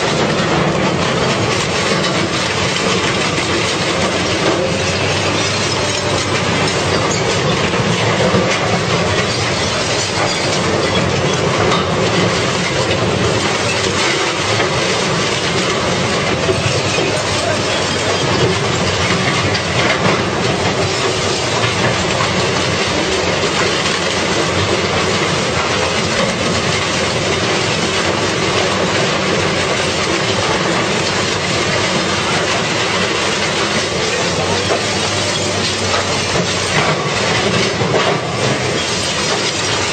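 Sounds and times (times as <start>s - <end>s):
heavy machine running: 0.0s - 39.9s
metal clattering and grinding: 0.0s - 39.9s.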